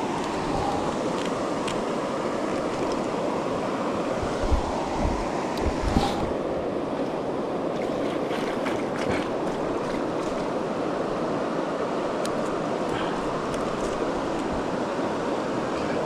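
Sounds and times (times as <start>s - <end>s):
river water rushing over rocks: 0.0s - 16.0s
wind buffeting microphone: 0.0s - 16.0s.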